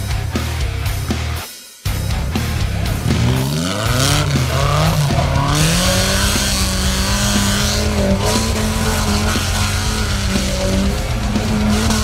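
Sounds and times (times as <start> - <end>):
buggy engine revving high: 2.0 - 12.0.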